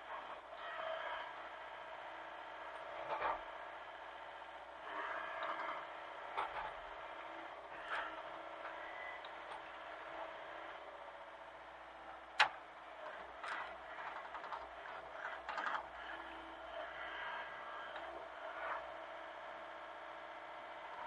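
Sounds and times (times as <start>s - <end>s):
excavator diesel engine running: 0.1s - 21.0s.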